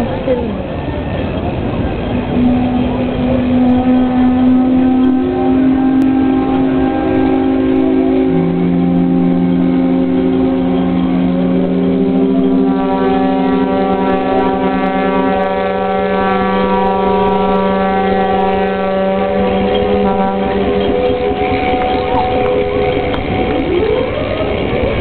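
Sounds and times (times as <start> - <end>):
steam whistles blowing: 2.1 - 25.0.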